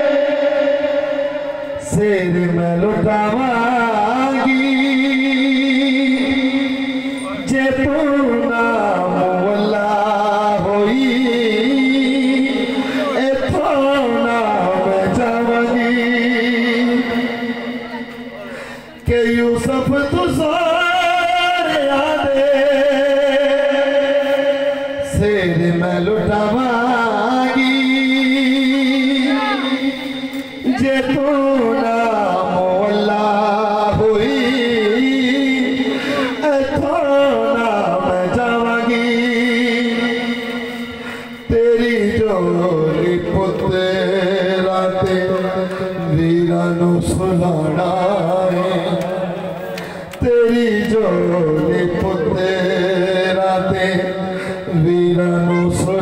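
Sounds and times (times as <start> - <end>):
man chanting: 0.0 - 56.0
man singing: 0.0 - 56.0.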